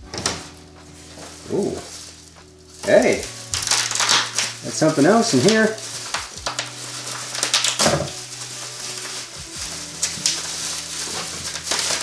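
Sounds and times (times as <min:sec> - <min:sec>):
bubble wrap crackling: 0:00.0 - 0:12.0
plastic bag crinkling: 0:00.0 - 0:12.0.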